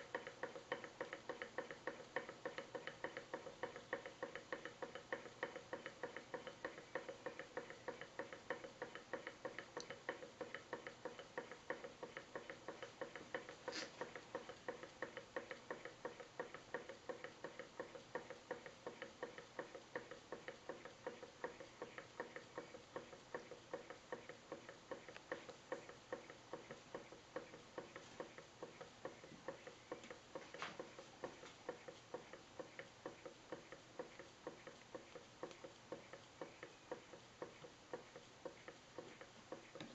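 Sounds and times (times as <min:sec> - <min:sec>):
model engine ticking knock: 0:00.0 - 0:39.9.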